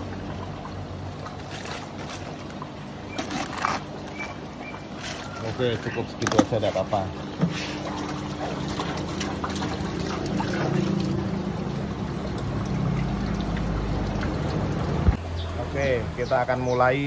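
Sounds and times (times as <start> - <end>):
water sloshing and bubbling: 0.0 - 15.3.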